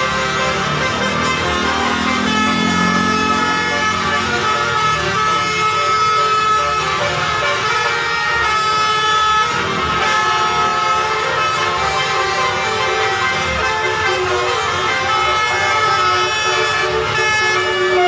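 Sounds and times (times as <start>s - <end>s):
multi-tone bus air horn chord: 0.0s - 18.0s.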